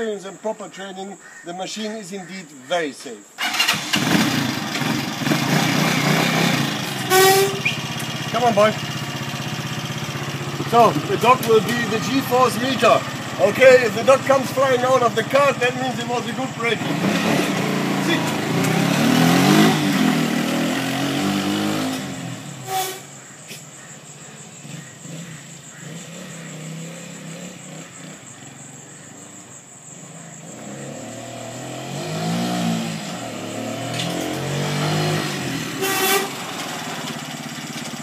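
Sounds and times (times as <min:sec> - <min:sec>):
motorcycle engine revving: 0:03.4 - 0:38.0.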